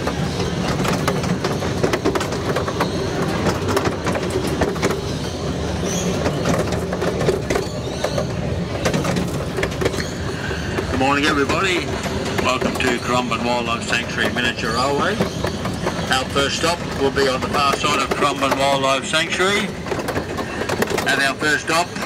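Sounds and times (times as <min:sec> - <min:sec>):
train carriages rumbling: 0:00.0 - 0:22.0
wheels clicking over rails: 0:00.0 - 0:22.0.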